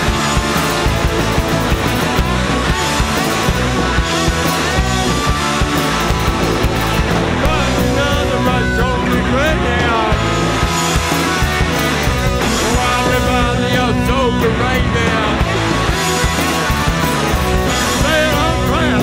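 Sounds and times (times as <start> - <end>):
distorted electric guitar: 0.0 - 19.0
live rock band: 0.0 - 19.0
pounding drums: 0.0 - 19.0.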